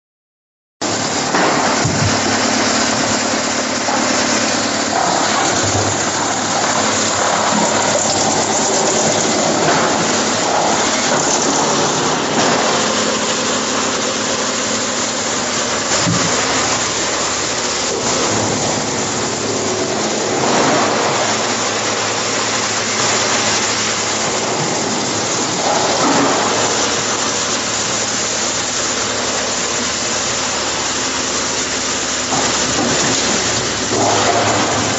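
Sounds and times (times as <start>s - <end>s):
wood chipper shredding wood: 0.8s - 34.9s.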